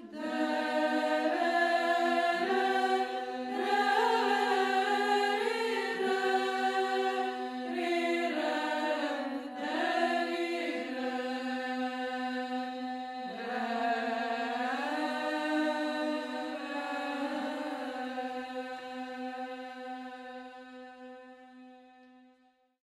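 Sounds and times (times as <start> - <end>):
voices chanting a slow melody: 0.0 - 22.4.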